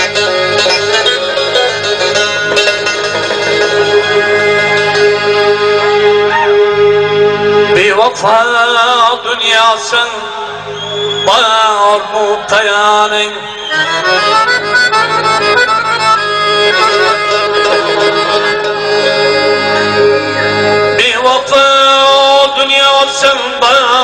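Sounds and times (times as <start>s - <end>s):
traditional instrumental wedding music: 0.0s - 24.0s.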